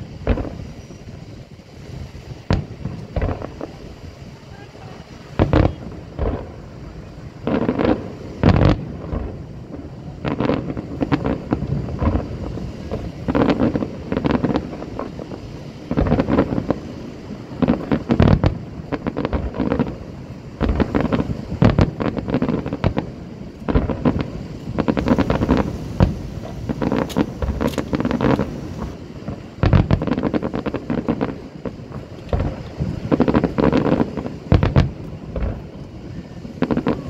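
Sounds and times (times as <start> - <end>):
fireworks bangs and crackles: 0.0 - 37.0
wind buffeting microphone: 0.0 - 37.0.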